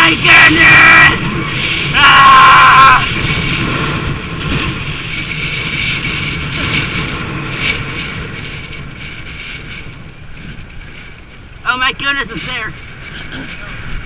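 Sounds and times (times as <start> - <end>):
bicycle ride rumble: 0.0 - 14.0
wind rushing over microphone: 0.0 - 14.0.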